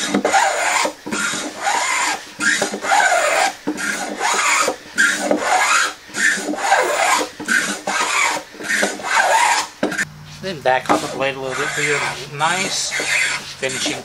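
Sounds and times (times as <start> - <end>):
plane shaving wood: 0.0 - 14.0.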